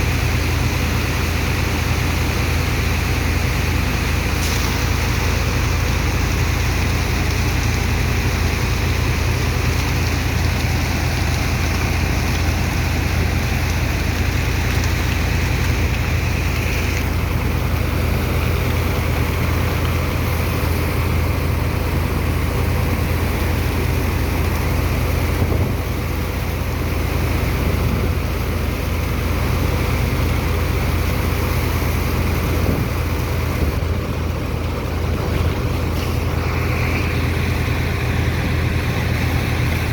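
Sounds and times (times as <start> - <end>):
deep engine hum: 0.0 - 39.9
rushing water and sand slurry: 0.0 - 39.9.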